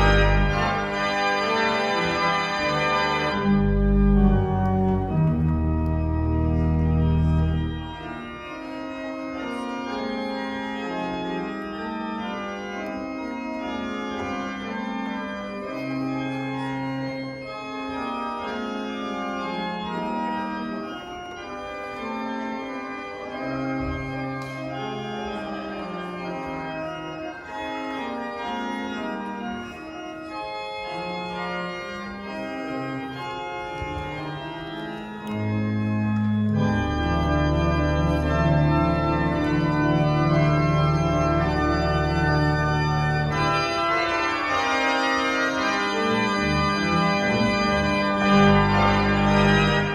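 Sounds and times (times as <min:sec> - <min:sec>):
church organ chords: 0:00.0 - 0:49.9
deep organ pedal notes: 0:00.0 - 0:49.9.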